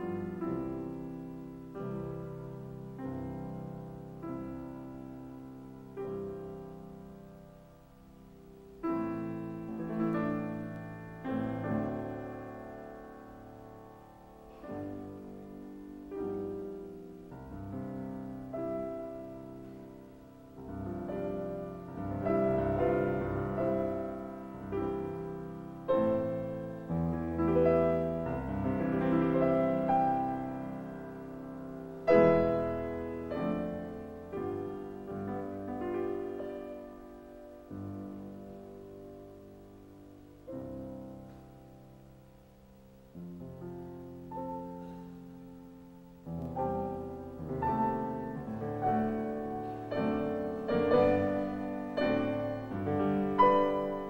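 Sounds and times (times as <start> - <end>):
grand piano solo piece: 0.0 - 54.0.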